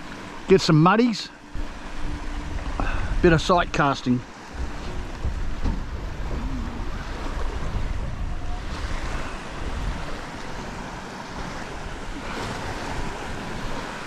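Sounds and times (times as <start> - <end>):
water lapping against boat hull: 0.0 - 14.0
wind buffeting microphone: 1.4 - 14.0.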